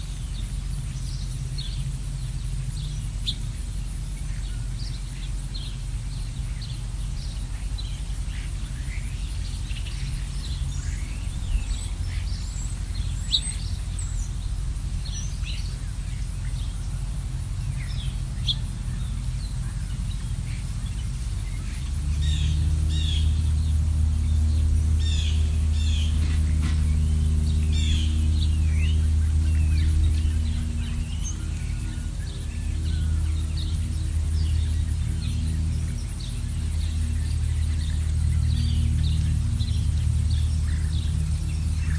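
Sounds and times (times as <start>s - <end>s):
low steady hum: 0.0s - 41.9s
songbirds chirping: 0.0s - 41.9s
steady low rumble: 0.0s - 41.9s.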